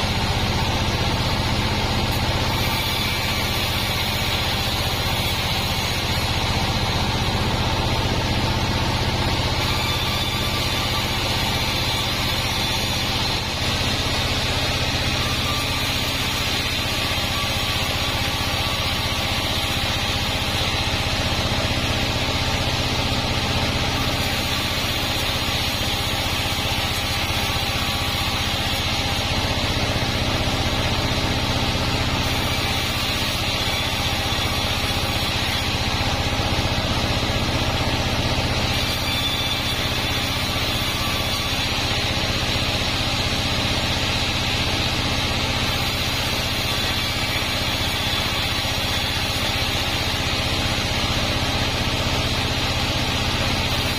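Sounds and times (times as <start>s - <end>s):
band sawmill humming: 0.0s - 53.9s.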